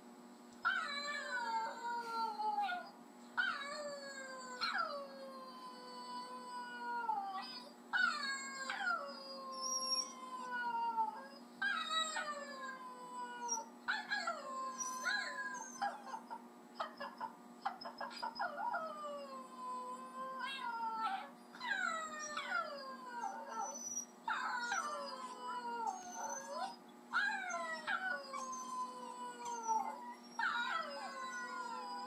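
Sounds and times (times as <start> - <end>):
dog howls from video playback: 0.6 - 32.0
dogs howling: 0.7 - 32.0.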